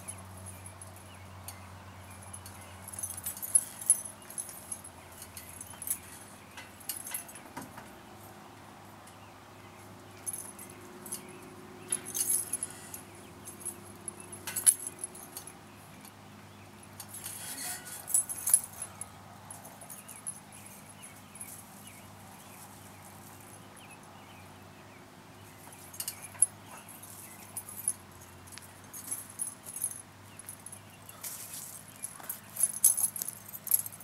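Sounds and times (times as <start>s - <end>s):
metal rings clinking and rattling: 0.0s - 7.9s, 10.1s - 16.2s, 16.8s - 24.3s, 25.4s - 34.0s.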